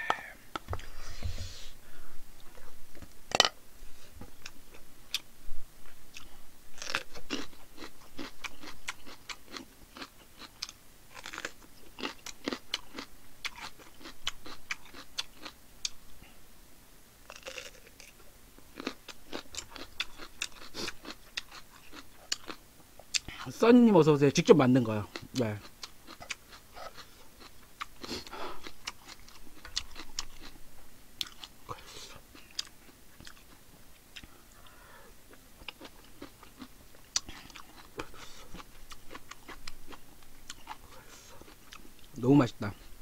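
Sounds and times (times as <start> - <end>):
person chewing crunchy vegetables: 4.2 - 16.1, 17.2 - 23.6, 25.0 - 42.9.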